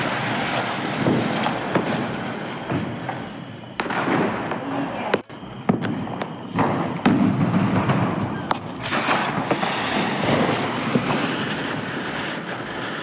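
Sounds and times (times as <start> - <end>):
firecrackers banging: 0.0 - 13.0
firecrackers crackling: 0.0 - 13.0.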